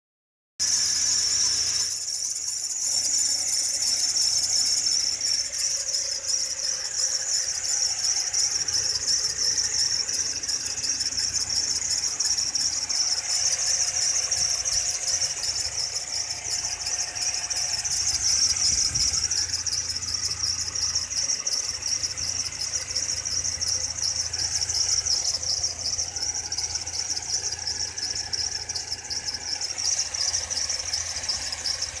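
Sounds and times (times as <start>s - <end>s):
fluttering high-pitched squeal: 0.6s - 32.0s
low engine hum: 0.6s - 32.0s.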